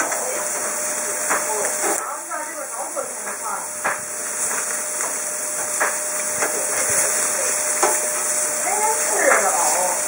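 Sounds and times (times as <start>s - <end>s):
steaks sizzling on grill: 0.0s - 10.0s.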